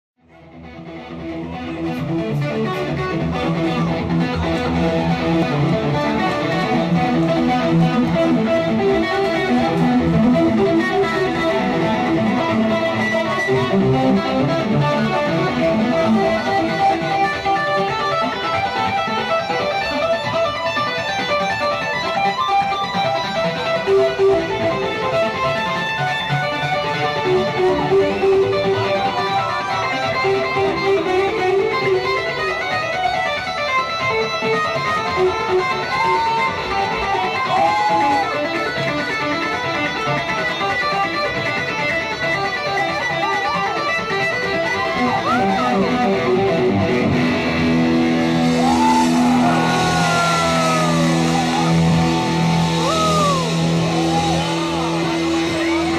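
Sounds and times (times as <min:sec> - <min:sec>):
electric guitar lead melody: 0:00.2 - 0:55.9.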